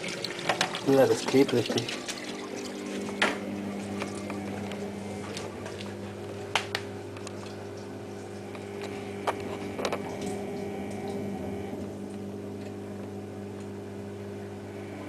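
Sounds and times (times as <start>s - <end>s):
washing machine hum: 0.0s - 15.0s.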